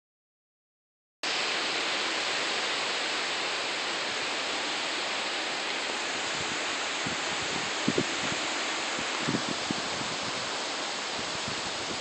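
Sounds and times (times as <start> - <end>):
heavy rain and wind hissing: 1.2 - 12.0.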